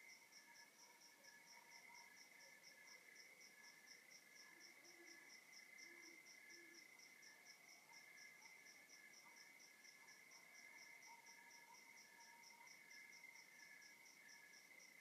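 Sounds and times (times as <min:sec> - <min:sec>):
continuous insect trill: 0:00.0 - 0:15.0.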